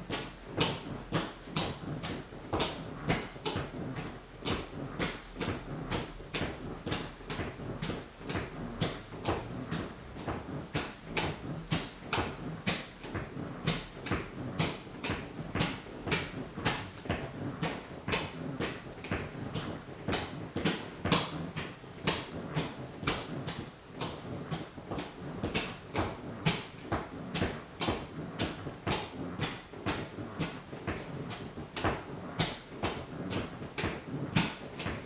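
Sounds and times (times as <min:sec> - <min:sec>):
sneaker tapping on wooden floor: 0:00.1 - 0:35.0.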